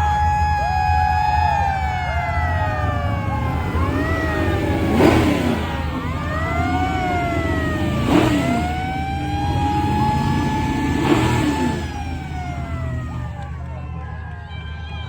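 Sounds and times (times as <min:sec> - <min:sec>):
fire truck sirens wailing: 0:00.0 - 0:15.0
low engine rumble: 0:00.0 - 0:15.0.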